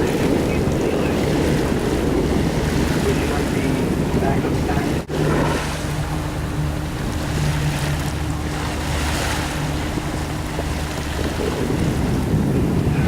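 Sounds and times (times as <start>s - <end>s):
boat engine humming: 0.0s - 13.0s
sea water washing: 0.0s - 13.0s
wind buffeting microphone: 0.0s - 13.0s.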